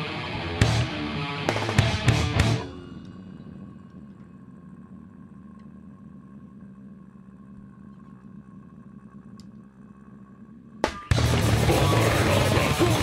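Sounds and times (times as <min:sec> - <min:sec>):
amplifier hum: 0:00.0 - 0:13.0.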